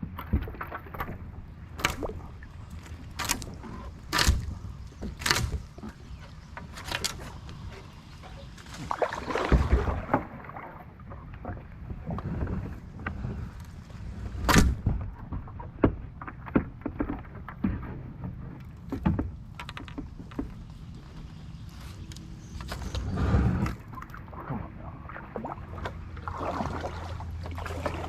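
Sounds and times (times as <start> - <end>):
paddle knocks and splashes: 0.0 - 21.2, 22.6 - 28.0.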